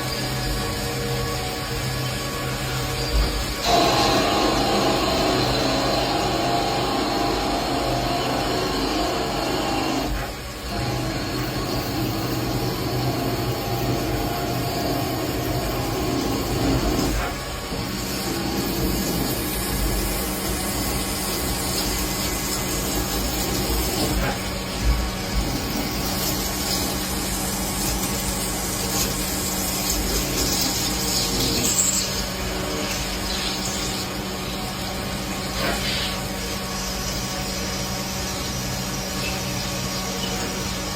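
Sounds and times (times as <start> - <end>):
machine tool whirring: 0.0 - 40.9.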